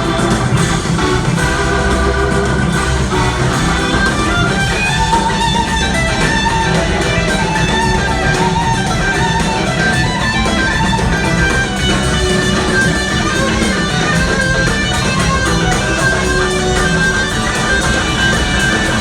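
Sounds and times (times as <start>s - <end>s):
electric guitar bending notes: 0.0s - 19.0s
live rock band playing: 0.0s - 19.0s.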